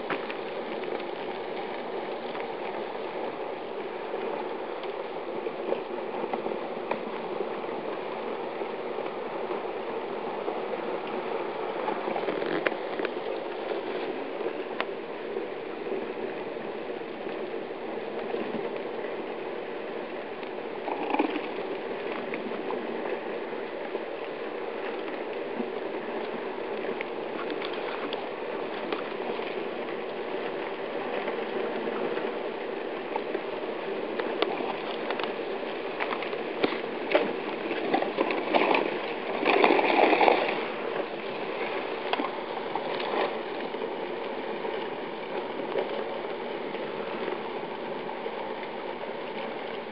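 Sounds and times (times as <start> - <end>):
river ice crackling and grinding: 0.0 - 48.3.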